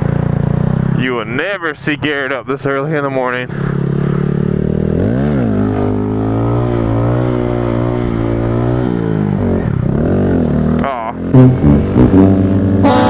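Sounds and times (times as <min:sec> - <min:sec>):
motorcycle engine revving: 0:00.0 - 0:01.3, 0:03.5 - 0:13.0.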